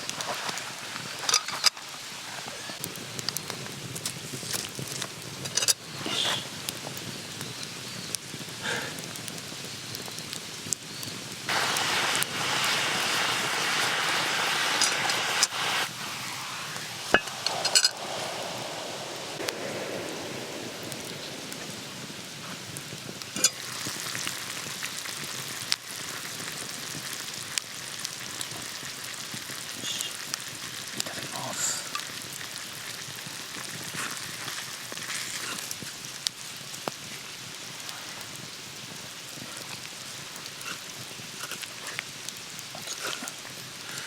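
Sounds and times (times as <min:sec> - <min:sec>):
food sizzling in a pot: 0:00.0 - 0:44.0.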